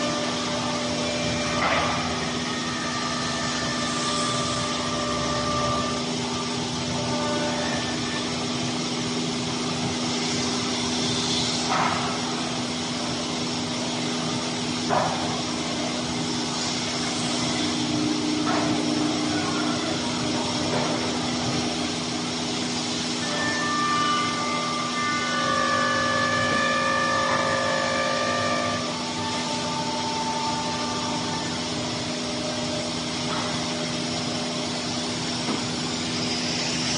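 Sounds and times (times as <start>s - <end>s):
machine whir and hum: 0.0s - 36.9s.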